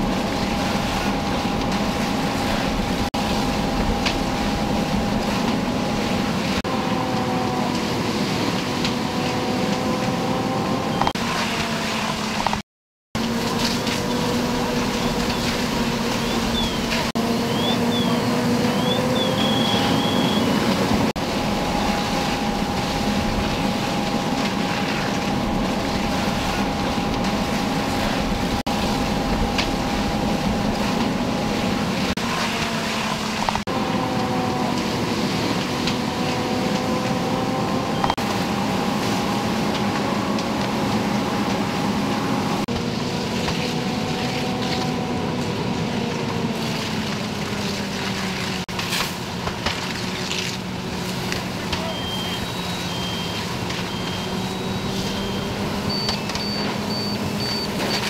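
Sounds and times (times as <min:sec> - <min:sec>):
fire burning: 0:00.0 - 0:10.0, 0:13.2 - 0:37.1, 0:38.1 - 0:58.0
fire engine pump droning: 0:00.0 - 0:12.5, 0:13.2 - 0:58.0.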